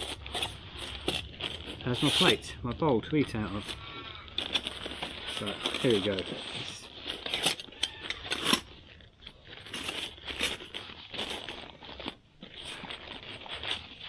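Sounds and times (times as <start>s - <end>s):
foil pouch crinkling and tearing: 0.0s - 14.0s.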